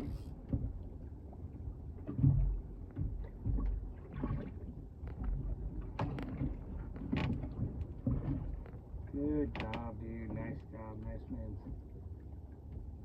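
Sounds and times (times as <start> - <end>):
boat rumbling and knocking: 0.0 - 13.0.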